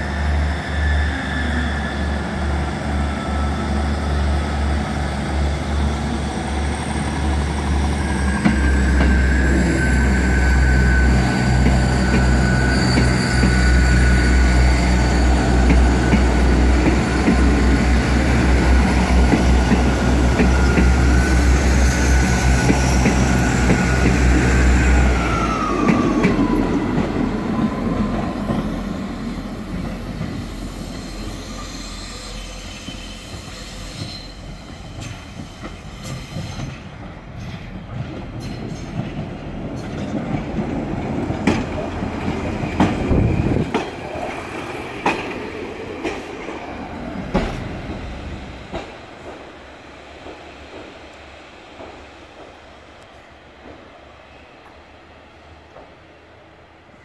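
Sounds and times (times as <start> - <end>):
diesel train engines running: 0.0 - 56.9.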